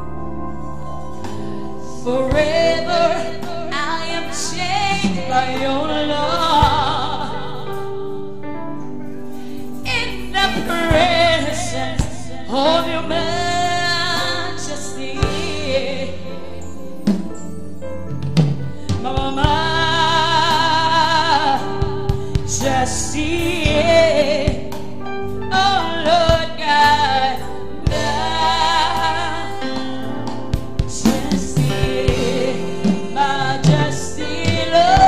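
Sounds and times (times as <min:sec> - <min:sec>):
sustained backing chords: 0:00.0 - 0:35.0
woman singing: 0:01.8 - 0:07.9, 0:09.8 - 0:16.8, 0:18.9 - 0:24.9, 0:25.5 - 0:35.0.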